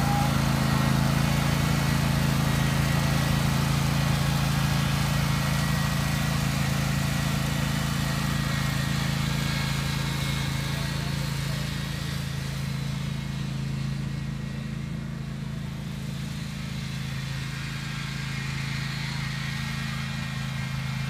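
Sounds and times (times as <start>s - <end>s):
riding lawn mower engine running: 0.0s - 21.0s.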